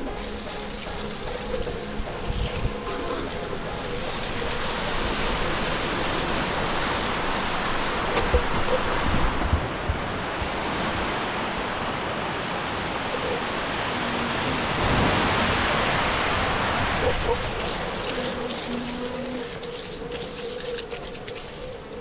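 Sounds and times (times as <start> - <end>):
creek rushing over rocks: 0.0 - 22.0.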